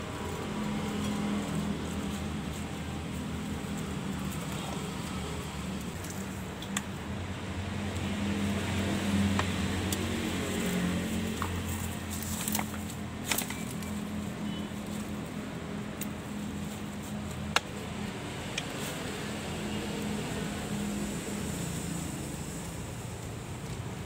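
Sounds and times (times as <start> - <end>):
hands in dry leaves and soil: 0.0 - 24.0.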